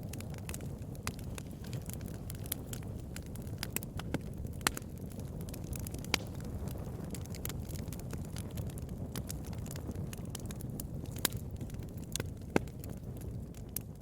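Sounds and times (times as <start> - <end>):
campfire flames rushing: 0.0 - 14.0
wood crackling and popping: 0.0 - 14.0.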